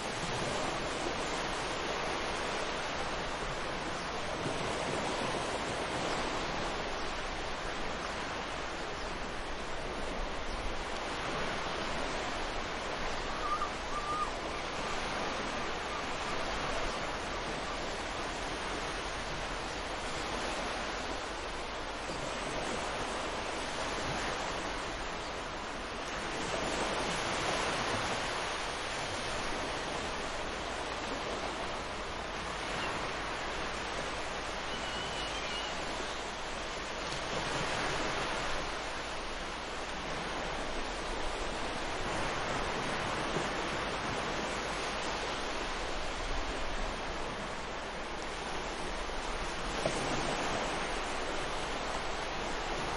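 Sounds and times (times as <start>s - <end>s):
ocean surf washing ashore: 0.0s - 52.9s.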